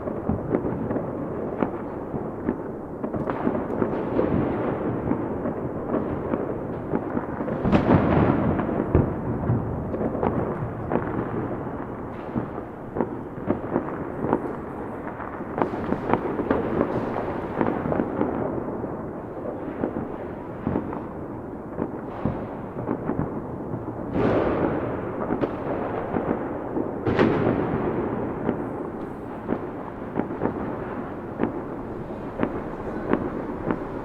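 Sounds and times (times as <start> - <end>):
firework bursts echoing: 0.0 - 34.0
fireworks crackling: 0.0 - 34.0.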